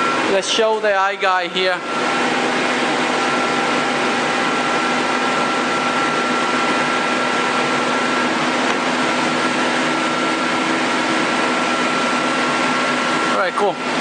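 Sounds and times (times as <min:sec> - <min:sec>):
lathe whirring with high whine: 0:00.0 - 0:14.0.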